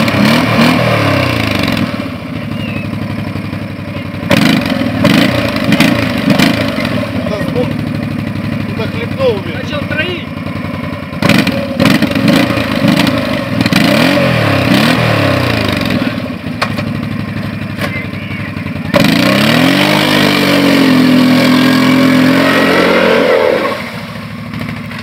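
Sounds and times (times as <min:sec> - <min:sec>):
atv engine revving: 0:00.0 - 0:25.0.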